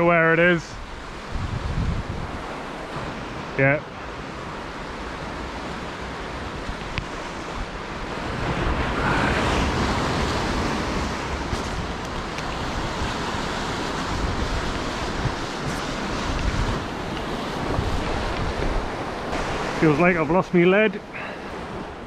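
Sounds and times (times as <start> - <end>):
surf washing against rocks: 0.0 - 22.0
wind buffeting microphone: 0.7 - 19.9.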